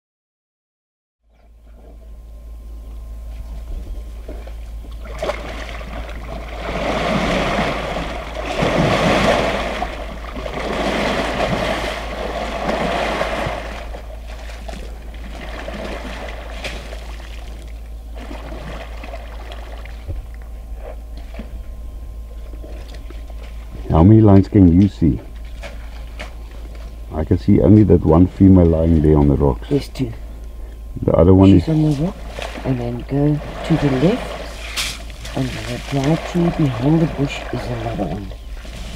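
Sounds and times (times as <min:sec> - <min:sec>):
steady low rumble: 0:01.3 - 0:38.9.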